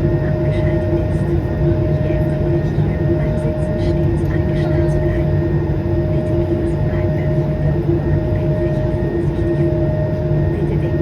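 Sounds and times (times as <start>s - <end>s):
aircraft cabin engine rumble: 0.0s - 11.0s
steady hums: 0.0s - 11.0s.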